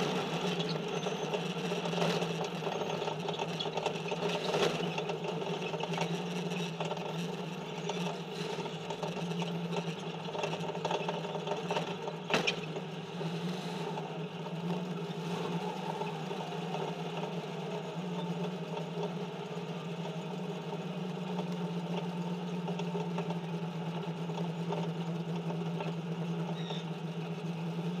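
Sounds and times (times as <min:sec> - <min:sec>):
race car engine humming: 0:00.0 - 0:28.0.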